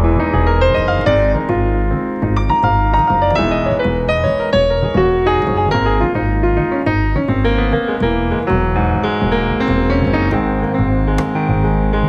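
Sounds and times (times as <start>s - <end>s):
double bass: 0.0s - 12.0s
jazz piano: 0.0s - 12.0s.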